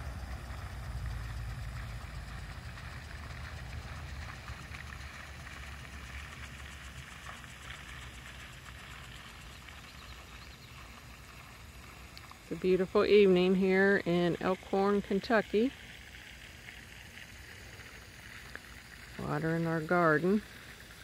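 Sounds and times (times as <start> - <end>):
vehicle engine rumble: 0.0 - 19.5
faint outdoor background noise: 0.0 - 21.0.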